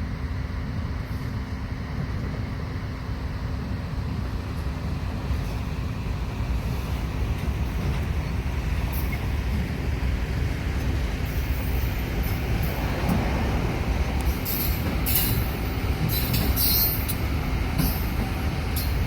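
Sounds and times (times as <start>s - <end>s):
low engine rumble: 0.2s - 19.0s.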